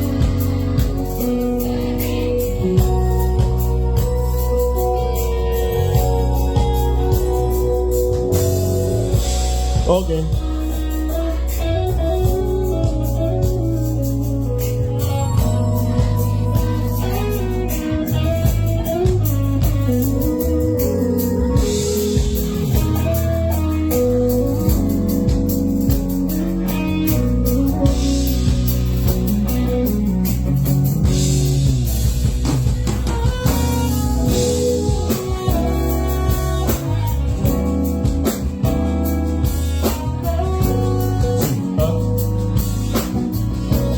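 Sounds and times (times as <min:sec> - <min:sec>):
instrumental band music through speakers: 0:00.0 - 0:43.9.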